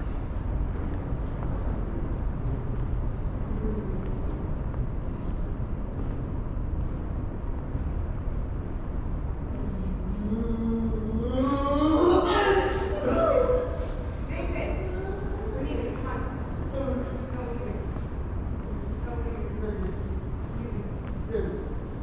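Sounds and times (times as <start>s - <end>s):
ventilation low rumble: 0.0s - 22.0s.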